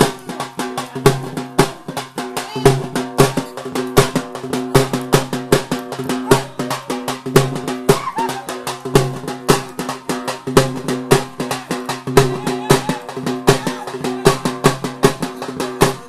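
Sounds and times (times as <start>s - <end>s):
fast loud drumming: 0.0s - 16.0s.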